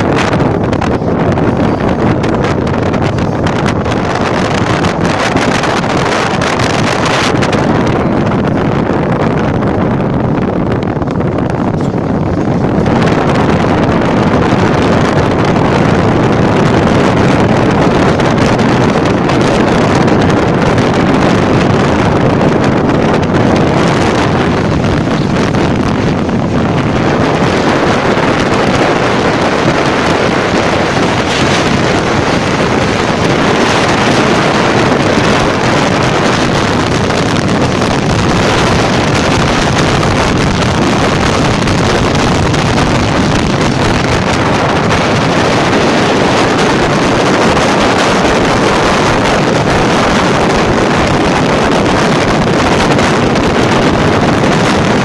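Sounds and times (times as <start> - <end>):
train wheels rumbling on rails: 0.0 - 55.0
wind buffeting microphone: 0.0 - 55.0.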